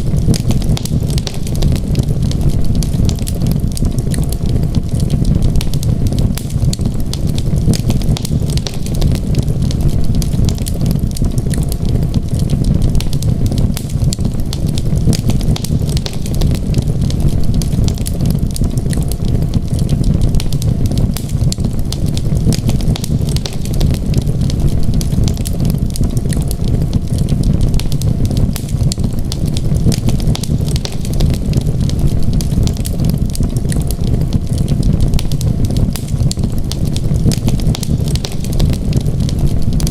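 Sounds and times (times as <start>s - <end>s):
low rumble: 0.0s - 39.9s
wood fire crackling and popping: 0.0s - 39.9s.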